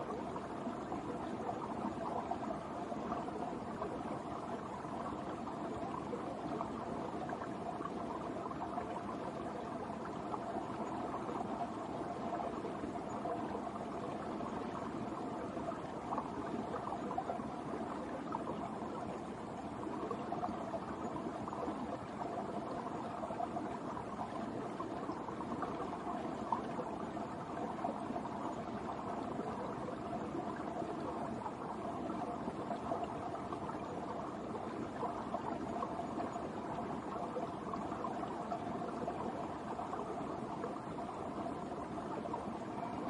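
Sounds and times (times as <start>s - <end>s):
brook flowing under ice: 0.0s - 43.0s.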